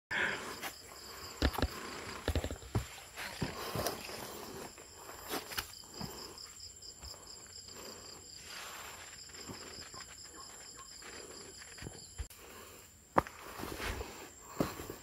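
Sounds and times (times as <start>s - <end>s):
insects pulsing trill: 0.2s - 15.0s
footsteps on trail: 1.0s - 15.0s.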